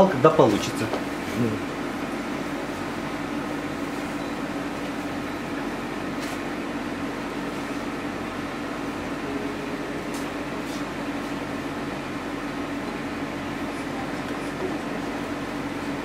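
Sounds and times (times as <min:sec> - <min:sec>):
room hum and hiss: 0:00.0 - 0:16.0.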